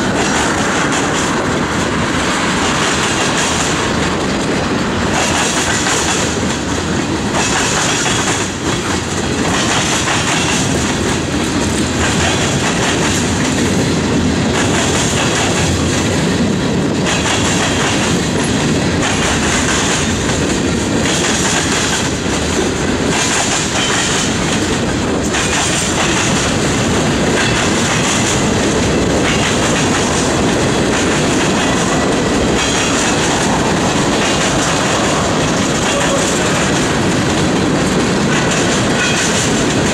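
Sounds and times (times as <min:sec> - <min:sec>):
train wheels clattering over rail joints: 0:00.0 - 0:39.9
wheel-on-rail noise: 0:00.0 - 0:39.9.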